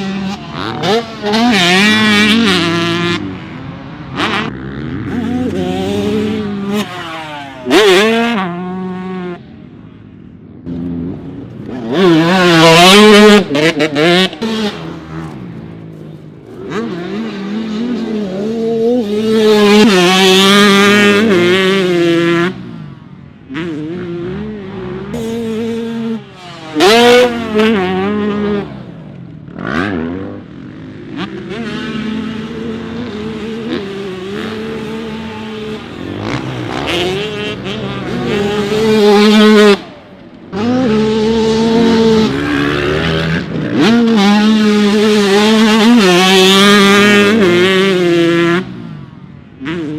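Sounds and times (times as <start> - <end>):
dirt bikes revving and accelerating: 0.0 - 49.9.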